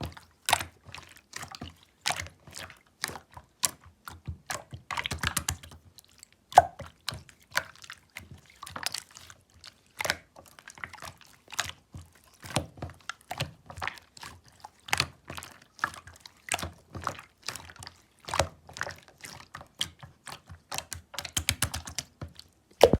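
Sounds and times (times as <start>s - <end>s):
slime squishing with small pops: 0.0s - 22.9s.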